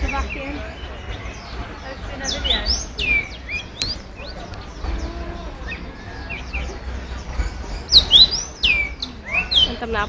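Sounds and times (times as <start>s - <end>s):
songbirds chirping and whistling: 0.0s - 10.0s.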